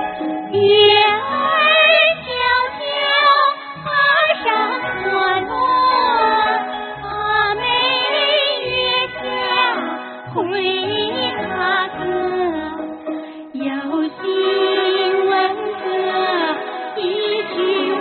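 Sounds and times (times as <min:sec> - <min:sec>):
musical accompaniment: 0:00.0 - 0:18.0
women singing together: 0:00.5 - 0:13.0, 0:13.6 - 0:18.0.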